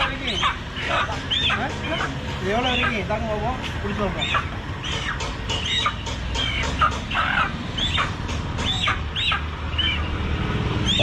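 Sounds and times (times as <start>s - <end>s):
chicken squawking: 0.0s - 3.2s, 4.1s - 10.1s.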